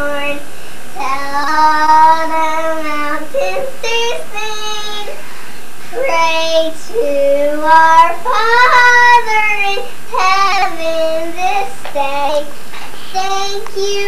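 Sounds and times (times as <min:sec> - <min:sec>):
child singing alone: 0:00.0 - 0:00.4, 0:01.0 - 0:05.2, 0:05.9 - 0:14.0.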